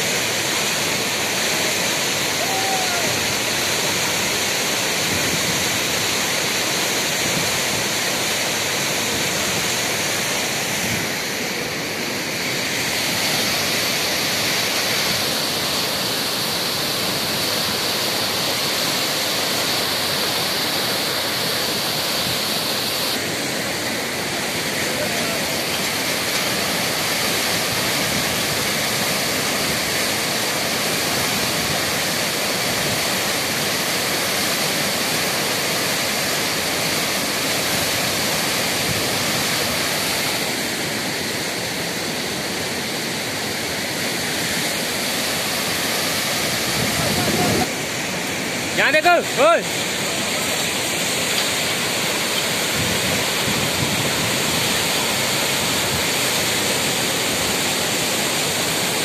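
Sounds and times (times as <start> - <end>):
white-water rapids rushing over boulders: 0.0 - 59.0.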